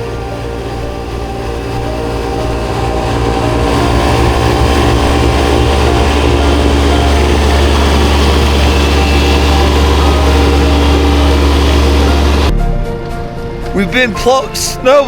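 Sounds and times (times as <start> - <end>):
engine humming: 0.0 - 13.8.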